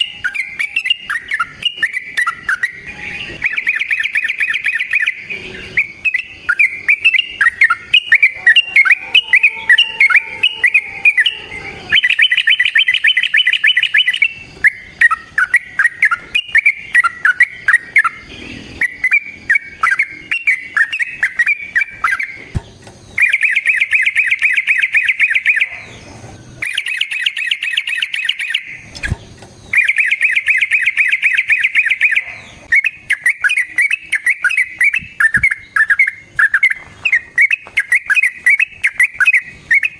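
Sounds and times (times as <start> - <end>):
bird fast rolling trills: 0.0 - 39.9
bulbul chattering song: 0.0 - 39.9.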